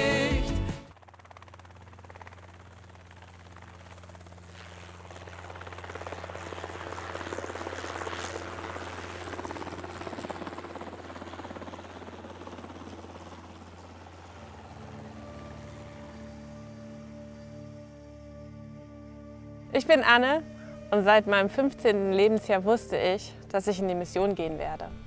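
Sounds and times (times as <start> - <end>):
low hum with fluttering pulse: 0.9 - 25.0.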